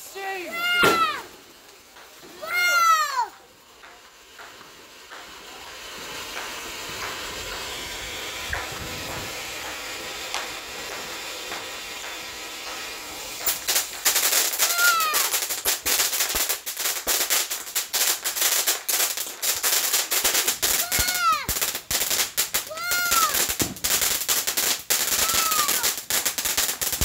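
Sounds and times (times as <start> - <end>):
fireworks crackling pops: 0.0 - 27.0
fireworks hissing: 0.0 - 27.0
fireworks whistles: 0.0 - 27.0.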